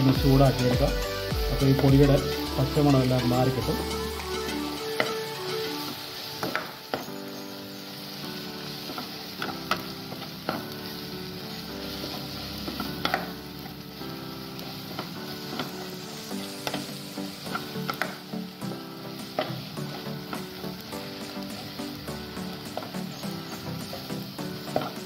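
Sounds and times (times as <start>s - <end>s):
masala sizzling in oil: 0.0s - 25.0s.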